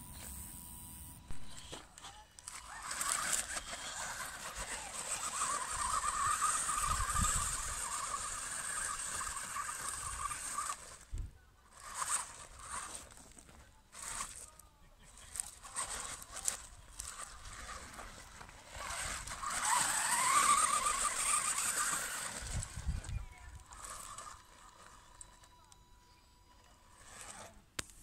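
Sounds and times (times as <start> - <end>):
toy truck motor whirring: 0.0 - 28.0.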